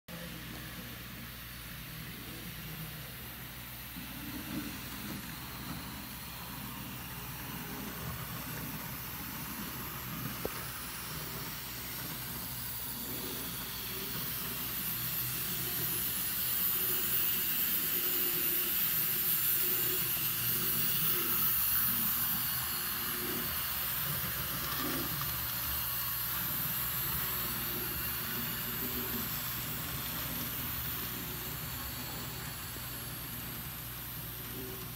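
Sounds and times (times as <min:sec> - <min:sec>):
model steam train hiss: 0:02.4 - 0:34.9.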